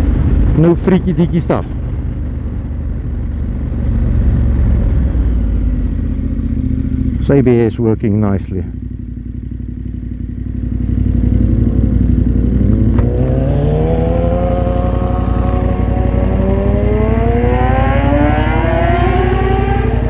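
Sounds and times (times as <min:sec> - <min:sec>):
motorcycle engine idling: 0:00.0 - 0:18.0
motorcycle engine accelerating: 0:00.0 - 0:20.0.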